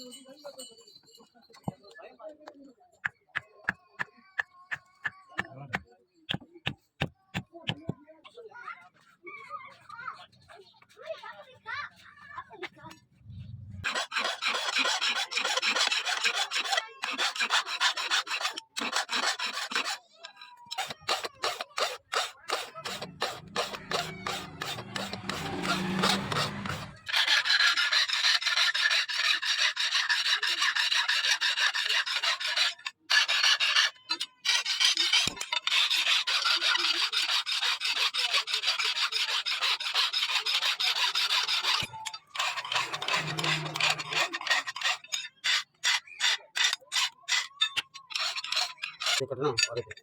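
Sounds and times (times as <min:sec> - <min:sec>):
file rasping: 0:03.6 - 0:07.5, 0:13.8 - 0:50.0.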